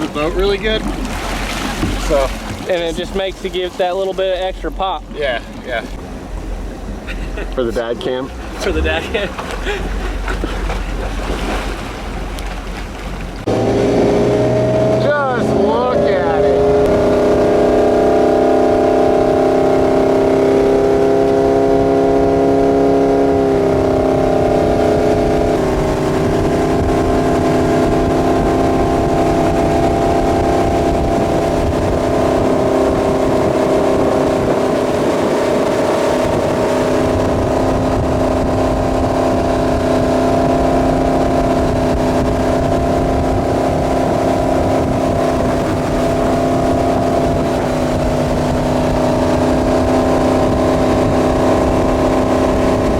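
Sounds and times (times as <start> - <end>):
boat engine running: 0.0 - 52.9
rushing water: 0.0 - 52.9
wind: 0.0 - 52.9.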